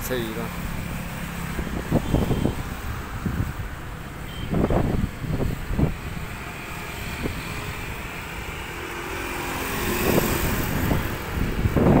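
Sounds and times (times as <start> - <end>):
vehicle engine hum: 0.0 - 12.0
wind buffeting microphone: 0.7 - 12.0.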